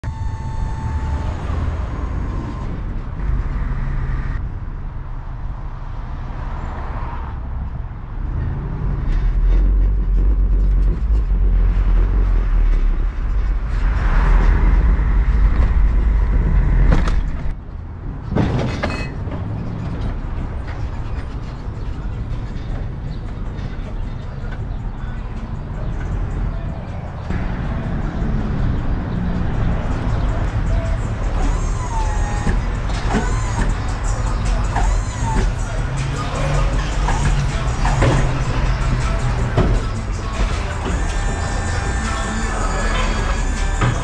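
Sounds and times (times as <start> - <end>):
truck engine and road rumble: 0.0 - 44.0.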